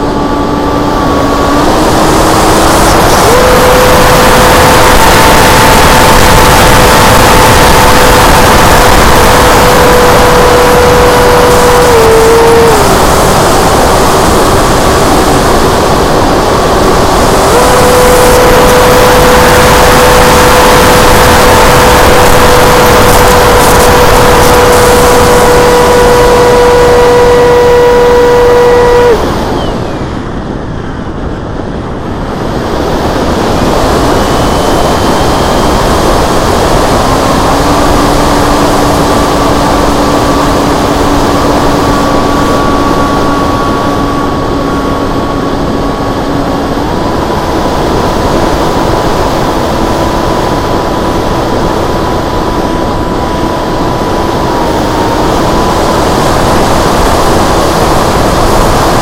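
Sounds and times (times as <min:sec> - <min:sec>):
electric motor whine: 0:00.0 - 0:59.0
rush of air: 0:00.0 - 0:59.0.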